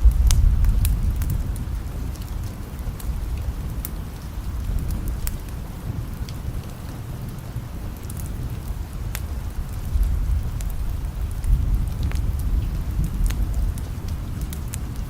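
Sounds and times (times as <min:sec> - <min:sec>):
distant thunder rumble: 0:00.0 - 0:06.2, 0:08.4 - 0:15.0
sharp crackles: 0:00.0 - 0:15.0
steady rain: 0:00.0 - 0:15.0.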